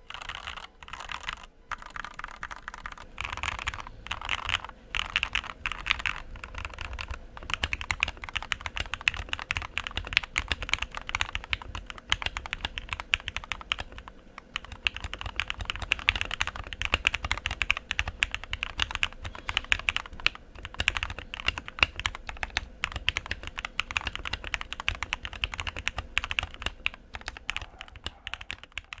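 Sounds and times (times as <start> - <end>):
fast typing on mechanical keyboard: 0.0 - 29.0.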